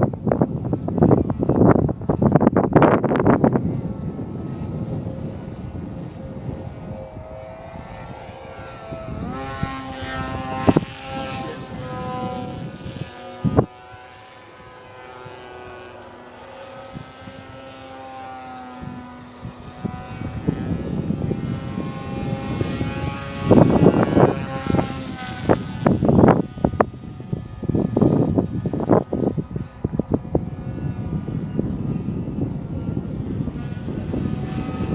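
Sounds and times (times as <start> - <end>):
model plane motor whining: 0.0 - 34.9
wind buffeting microphone: 0.0 - 34.9.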